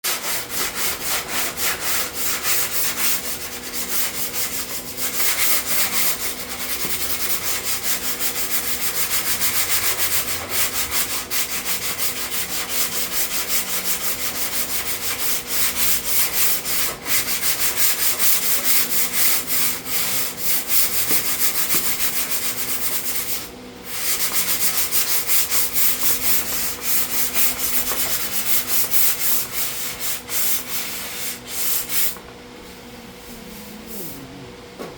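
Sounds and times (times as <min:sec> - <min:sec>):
sandpaper rubbing: 0:00.1 - 0:34.2.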